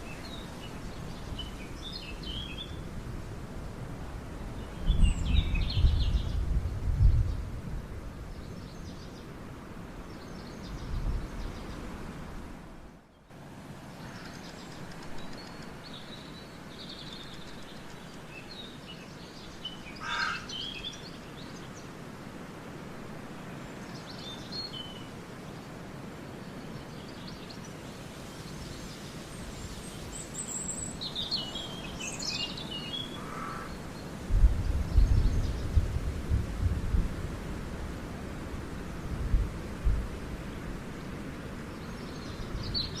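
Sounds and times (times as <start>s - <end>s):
outdoor ambient hiss: 0.0s - 43.0s.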